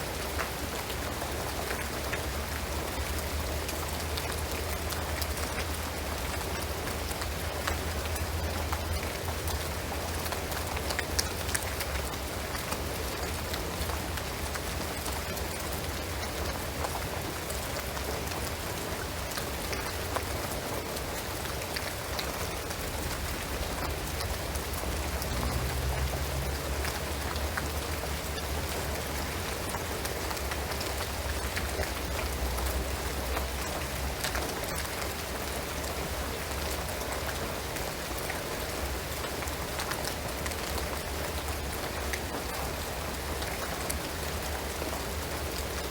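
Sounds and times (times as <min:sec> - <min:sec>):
rain on a roof: 0:00.0 - 0:45.9.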